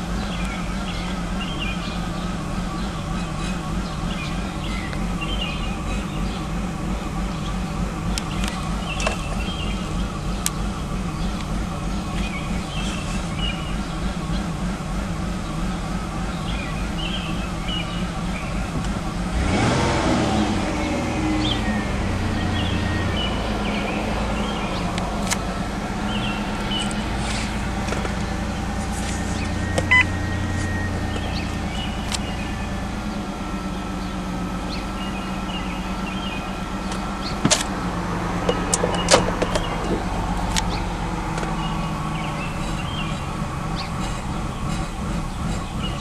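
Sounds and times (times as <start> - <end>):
car engine idling roughly: 0.0 - 19.8, 20.8 - 46.0.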